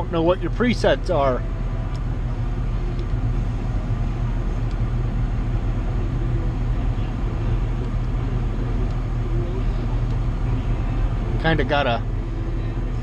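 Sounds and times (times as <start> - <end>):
tractor diesel engine hum: 0.0 - 13.0.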